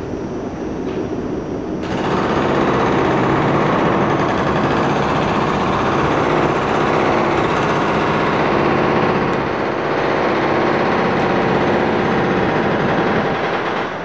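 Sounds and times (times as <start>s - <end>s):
demolition machine engine drone: 0.0s - 14.0s.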